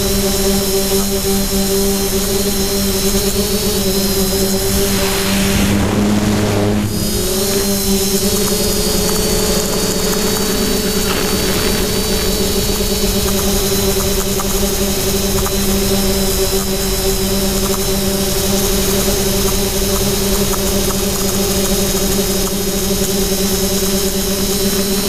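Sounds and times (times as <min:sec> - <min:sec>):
drone propellers whining: 0:00.1 - 0:25.0.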